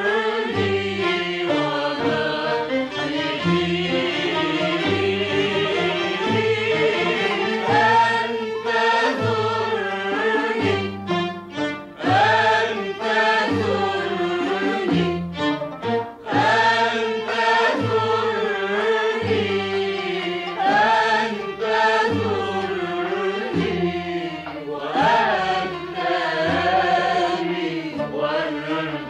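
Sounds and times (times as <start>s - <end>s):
orchestra with sung vocals: 0.0s - 29.0s.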